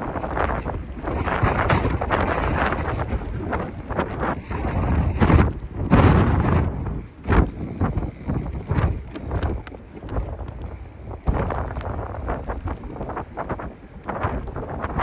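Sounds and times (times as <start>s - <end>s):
knocks and flutters: 0.0s - 15.0s
wind buffeting microphone: 0.0s - 15.0s.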